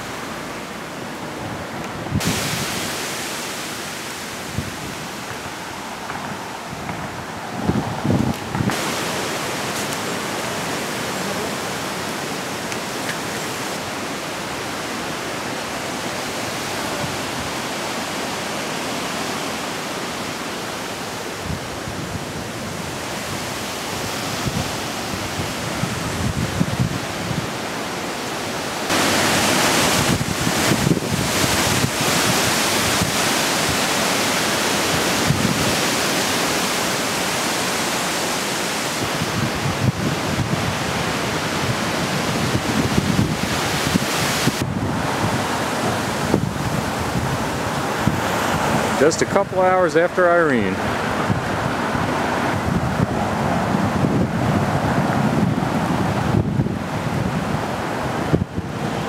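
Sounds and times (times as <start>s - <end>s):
wind buffeting microphone: 0.0s - 19.5s, 20.2s - 28.0s, 28.8s - 37.0s, 38.8s - 49.4s, 50.6s - 59.0s
gusty wind through trees: 0.0s - 59.0s.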